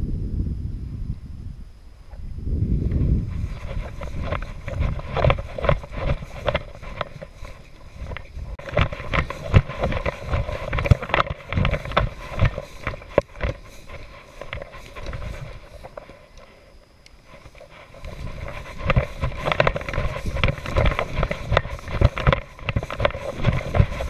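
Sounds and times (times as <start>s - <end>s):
wind rumbling on microphone: 0.0s - 24.0s
footsteps through dry grass: 2.6s - 24.0s
grass stalks rustling: 2.8s - 24.0s.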